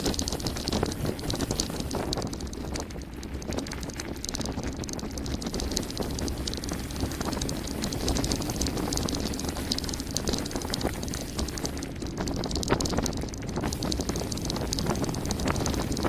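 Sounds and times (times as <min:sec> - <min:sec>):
bike rattling and clicking: 0:00.0 - 0:16.0
wind on microphone: 0:00.0 - 0:16.0.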